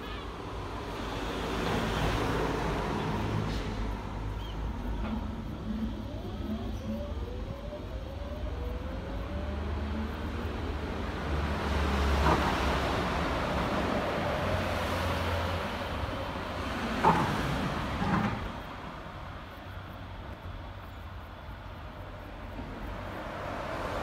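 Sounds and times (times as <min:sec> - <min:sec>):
electric tram rumble: 0:00.0 - 0:24.0
tram motor whine: 0:00.5 - 0:24.0.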